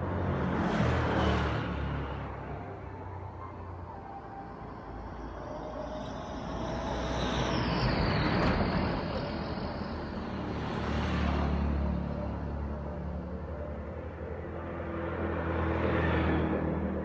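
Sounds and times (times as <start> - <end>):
vehicle passing: 0.0 - 3.5, 4.3 - 17.0.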